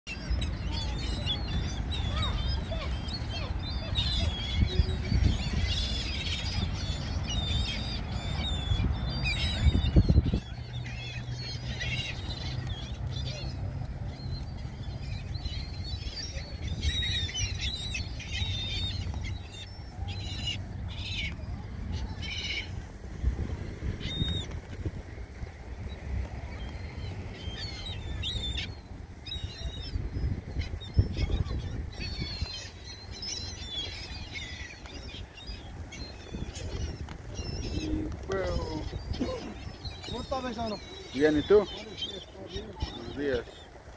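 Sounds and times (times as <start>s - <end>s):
gulls calling: 0.1s - 43.9s.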